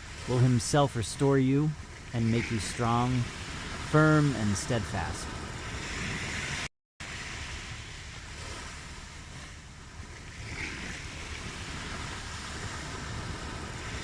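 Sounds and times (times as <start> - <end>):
ocean waves washing in: 0.0 - 14.0.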